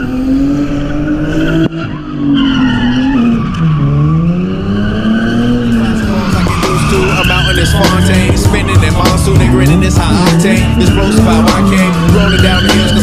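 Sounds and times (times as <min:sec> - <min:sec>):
car engine revving high: 0:00.0 - 0:13.0
tyres screeching: 0:01.4 - 0:13.0.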